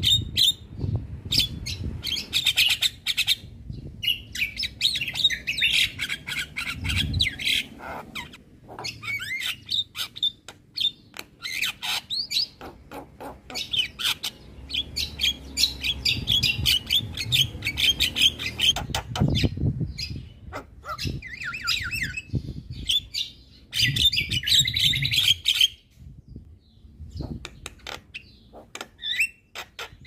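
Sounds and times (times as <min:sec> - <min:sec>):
myna singing clicks and chirps: 0:00.0 - 0:30.0.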